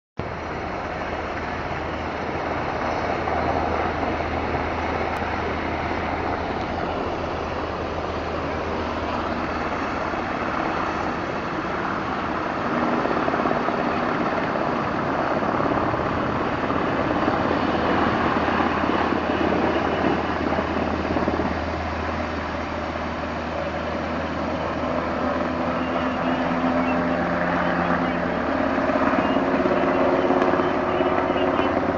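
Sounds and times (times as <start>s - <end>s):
helicopter flying over: 0.2s - 31.9s.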